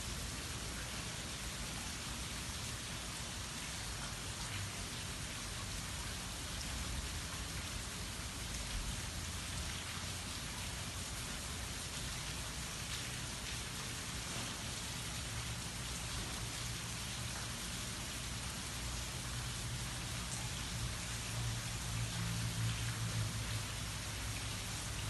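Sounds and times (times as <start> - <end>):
light rain falling: 0.0 - 25.0.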